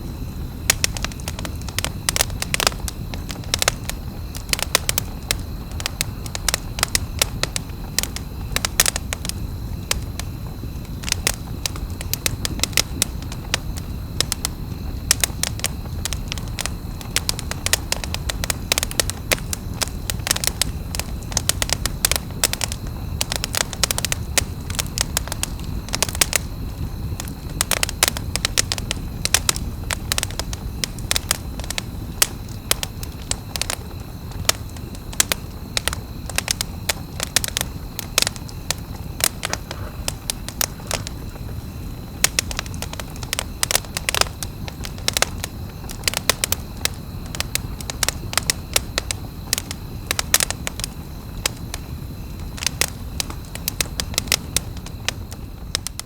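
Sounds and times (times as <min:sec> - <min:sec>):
campfire crackling and popping: 0:00.0 - 0:56.0
low rumble of burning fire: 0:00.0 - 0:56.0.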